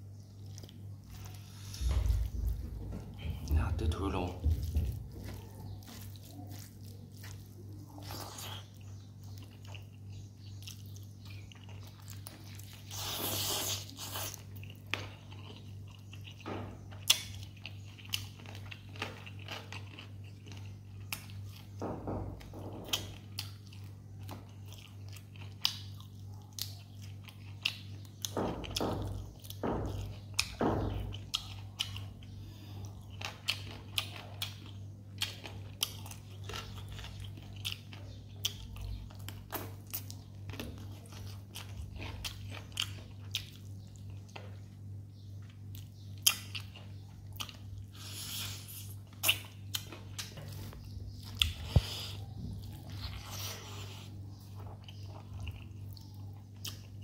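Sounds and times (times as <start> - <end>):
crunching and chewing: 0.0 - 57.0
low steady hum: 0.0 - 57.0.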